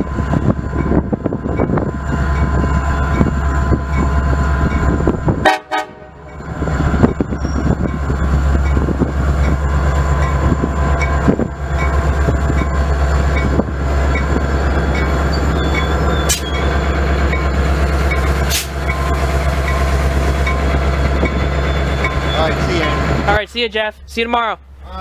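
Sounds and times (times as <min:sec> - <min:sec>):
locomotive engine droning: 0:00.0 - 0:25.0
wheel and rail noise: 0:00.0 - 0:25.0.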